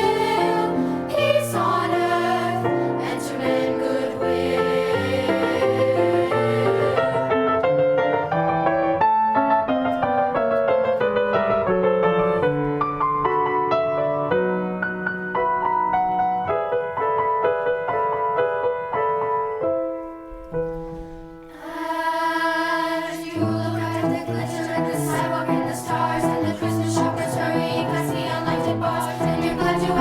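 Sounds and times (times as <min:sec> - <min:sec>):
solo piano: 0:00.0 - 0:21.9, 0:23.1 - 0:30.0.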